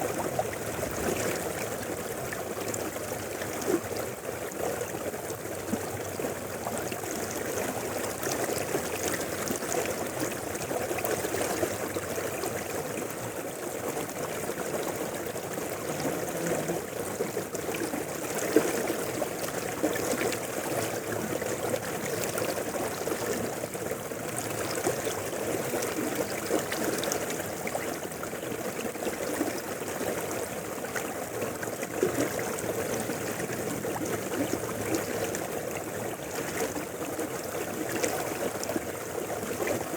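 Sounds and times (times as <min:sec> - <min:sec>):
river flowing over rocks: 0:05.5 - 0:39.9.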